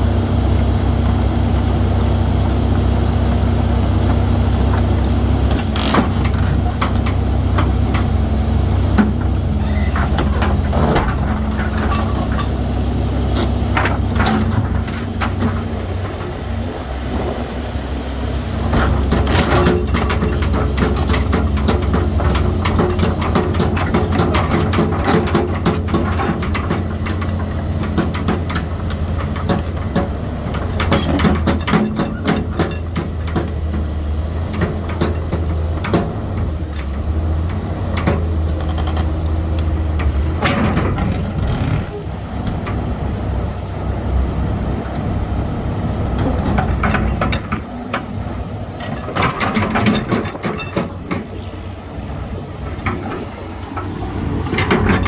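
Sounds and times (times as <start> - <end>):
excavator diesel engine running: 0.0 - 55.0
machine clanks and knocks: 4.0 - 16.6, 18.7 - 43.0, 46.2 - 51.5, 52.6 - 55.0.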